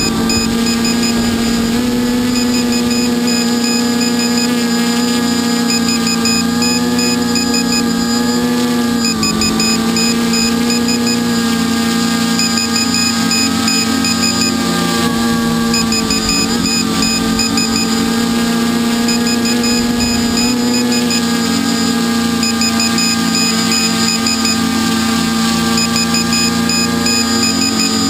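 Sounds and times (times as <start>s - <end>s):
high-pitched electronic beeps: 0.0s - 1.6s, 2.2s - 11.3s, 12.3s - 14.6s, 15.7s - 18.1s, 19.0s - 21.8s, 22.4s - 24.7s, 25.7s - 28.0s
multicopter propellers buzzing: 0.0s - 28.0s.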